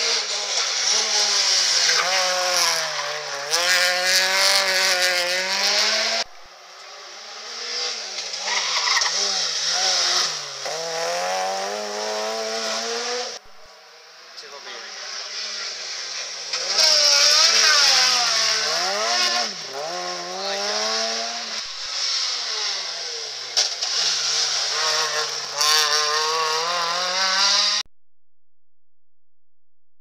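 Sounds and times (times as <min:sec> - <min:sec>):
rally cars passing revving hard: 0:00.0 - 0:27.9.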